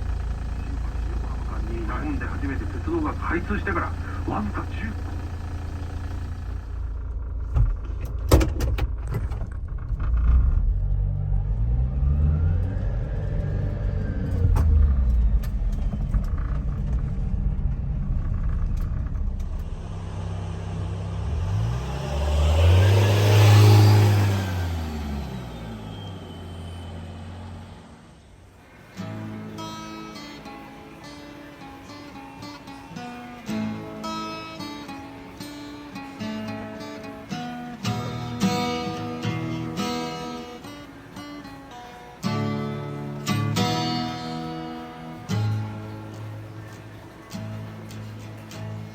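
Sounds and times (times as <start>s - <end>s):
small truck engine revving: 0.0s - 31.2s, 31.8s - 48.9s.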